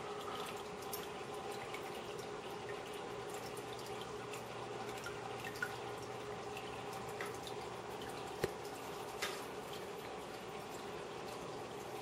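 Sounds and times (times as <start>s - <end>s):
faint steady hum: 0.0s - 12.0s
water drip plinks: 0.0s - 12.0s
water trickling in aquarium: 0.0s - 12.0s.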